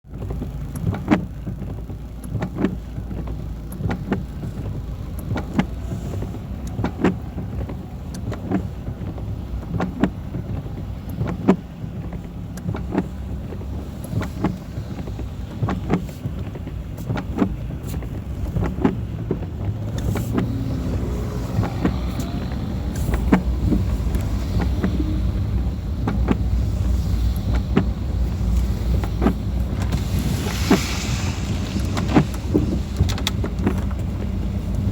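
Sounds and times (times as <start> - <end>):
car engine and road rumble: 0.0 - 34.9
raindrops tapping on car: 0.1 - 34.9.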